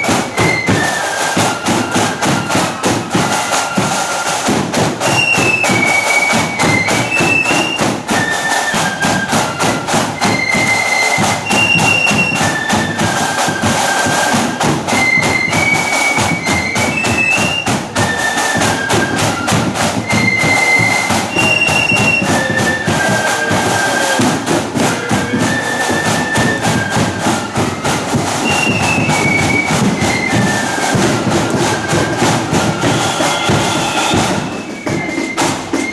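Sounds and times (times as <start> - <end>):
drums beating: 0.0 - 35.9
flutes playing a melody: 0.0 - 35.9.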